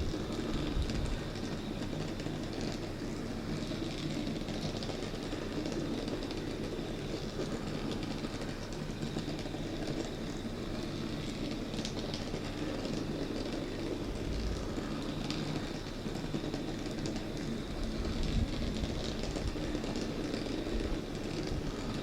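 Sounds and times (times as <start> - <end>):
model train motor whirring: 0.0 - 22.0
small wheels rolling on track: 0.0 - 22.0.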